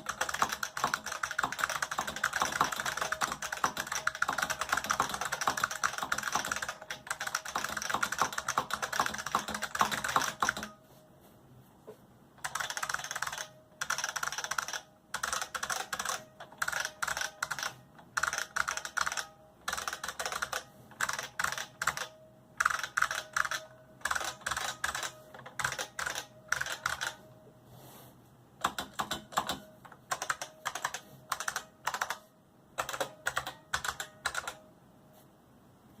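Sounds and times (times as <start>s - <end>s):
keyboard typing: 0.0s - 10.8s, 12.4s - 27.2s, 28.6s - 34.6s.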